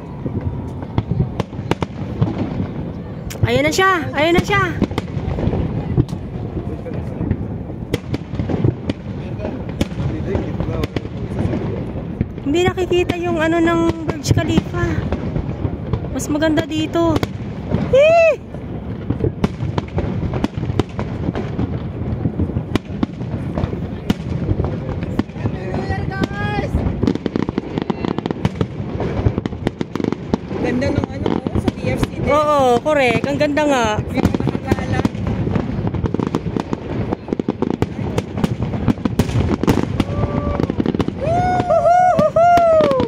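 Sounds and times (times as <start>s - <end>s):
fireworks bursting: 0.0s - 43.0s.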